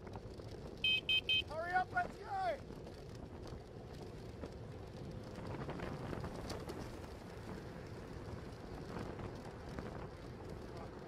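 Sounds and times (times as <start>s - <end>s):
road noise: 0.0s - 11.0s
wind rumble: 0.0s - 11.0s.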